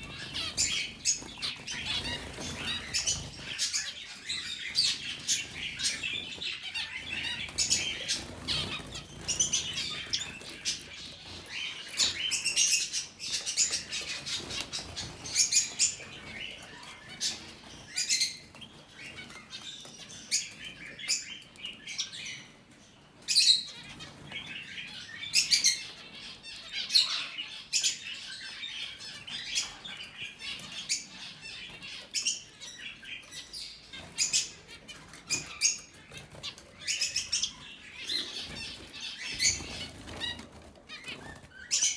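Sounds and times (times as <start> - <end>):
finches chirping: 0.0 - 22.5, 23.3 - 41.9.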